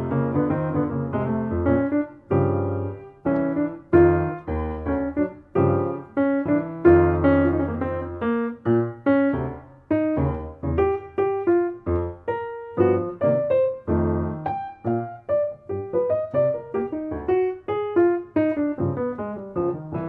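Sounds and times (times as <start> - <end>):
solo jazz piano: 0.0 - 20.0.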